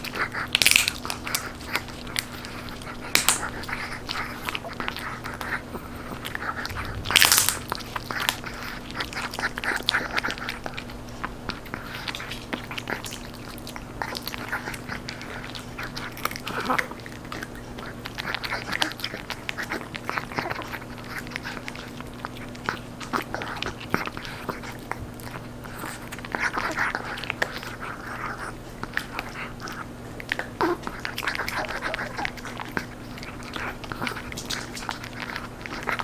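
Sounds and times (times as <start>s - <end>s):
dog crunching a treat: 0.0s - 36.0s
faint low hum: 0.0s - 36.0s.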